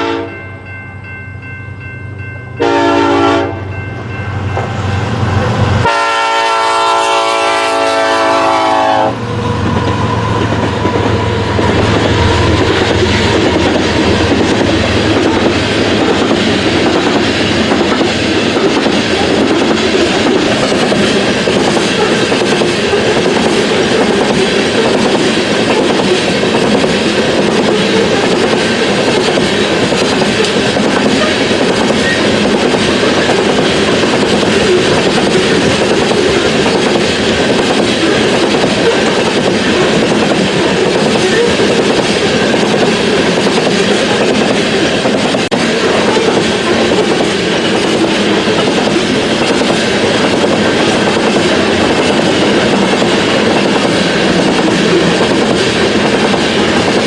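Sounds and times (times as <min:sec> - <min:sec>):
train wheels clattering on track: 0:04.0 - 0:57.0.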